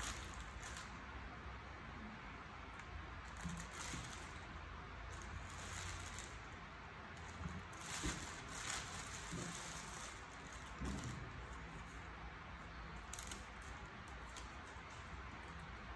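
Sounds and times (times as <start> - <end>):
plastic bag rustling: 0.0 - 1.4, 3.2 - 15.8.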